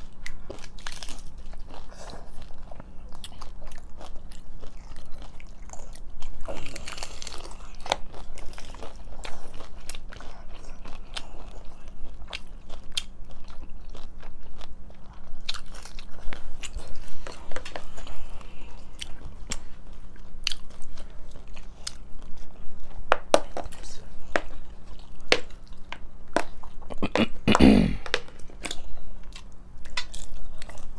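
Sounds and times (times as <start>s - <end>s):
crunching taco shells: 0.0s - 30.9s.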